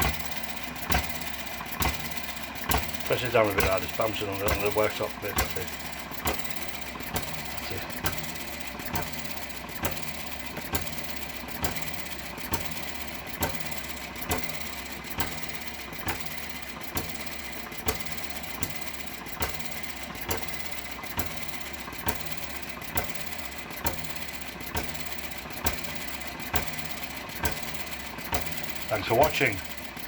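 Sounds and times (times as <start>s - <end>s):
mechanical running sound: 0.0s - 30.0s
small engine firing pops: 0.0s - 30.0s.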